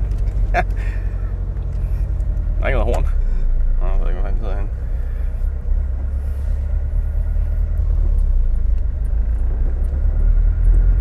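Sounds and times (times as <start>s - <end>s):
car engine rumbling while driving: 0.0s - 11.0s.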